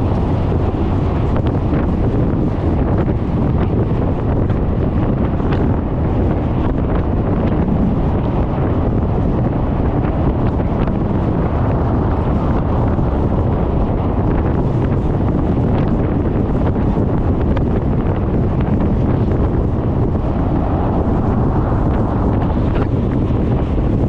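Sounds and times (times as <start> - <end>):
motor scooter rumble: 0.0 - 24.0
wind buffeting microphone: 0.0 - 24.0.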